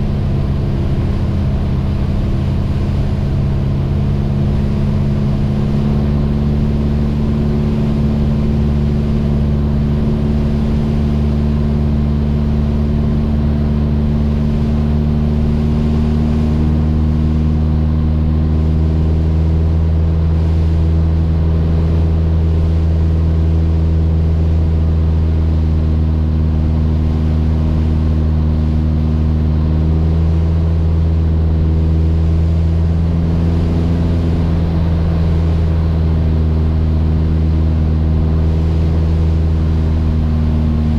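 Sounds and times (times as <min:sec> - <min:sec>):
propeller aircraft engine droning: 0:00.0 - 0:40.9.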